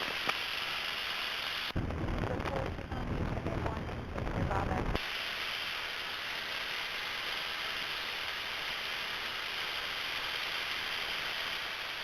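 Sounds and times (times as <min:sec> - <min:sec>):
airplane cabin noise hiss: 0:00.0 - 0:12.0.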